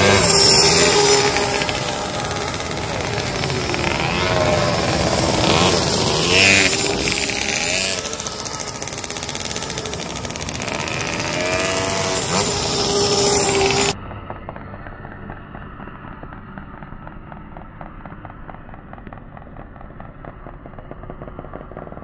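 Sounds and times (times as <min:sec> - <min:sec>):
small engine buzzing: 0:00.0 - 0:22.0.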